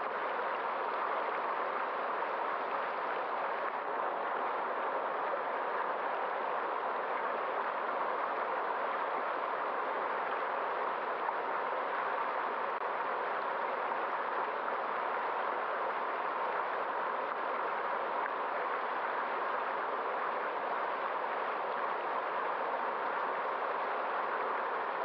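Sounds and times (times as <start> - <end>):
stream of running water: 0.0 - 25.0.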